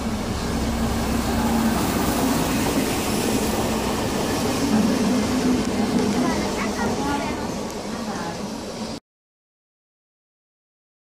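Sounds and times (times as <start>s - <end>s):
train wheels rolling on rails: 0.0s - 9.0s.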